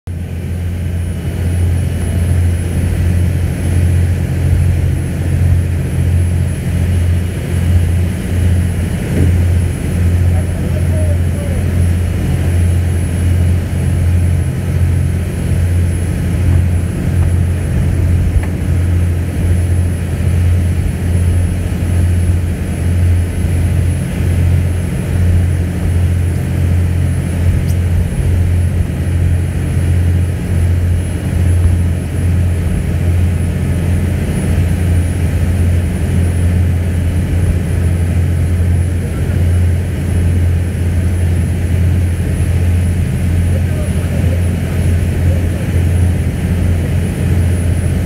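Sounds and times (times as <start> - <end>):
churning wake rushing: 0.1 - 48.0
motorboat engine drone: 0.1 - 48.0.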